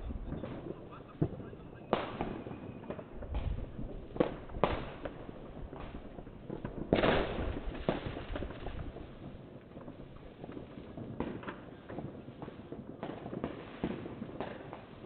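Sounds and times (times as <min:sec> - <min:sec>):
distant fireworks bangs and pops: 0:00.0 - 0:15.0.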